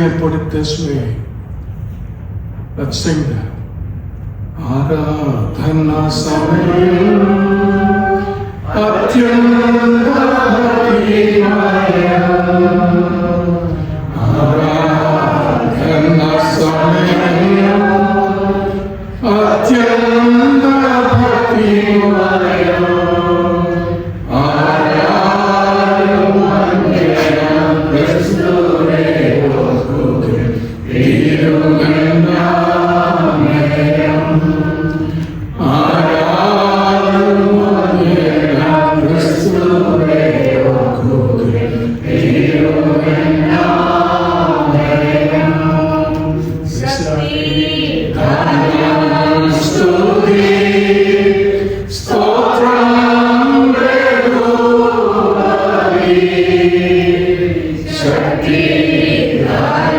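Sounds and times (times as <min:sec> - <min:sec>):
person singing a slow hymn: 0:04.6 - 0:59.9.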